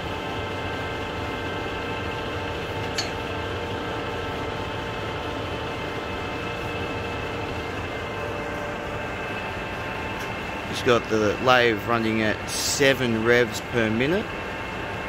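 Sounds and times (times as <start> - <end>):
lathe motor humming: 0.0 - 15.0.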